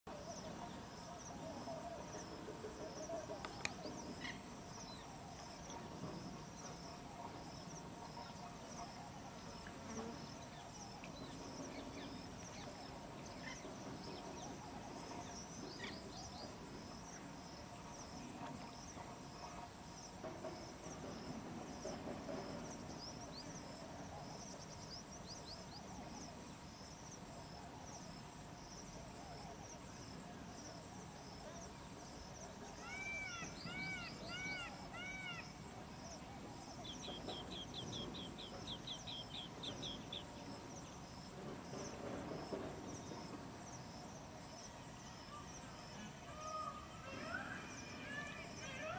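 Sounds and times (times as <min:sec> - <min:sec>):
insects chirping: 0:00.1 - 0:48.9.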